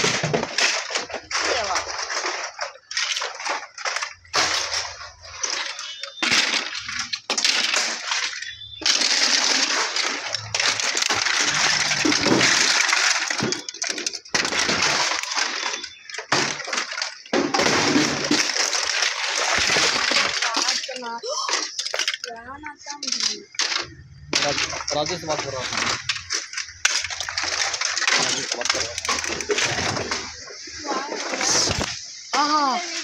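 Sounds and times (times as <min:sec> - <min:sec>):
plastic scrap clattering and crunching: 0:00.0 - 0:33.0.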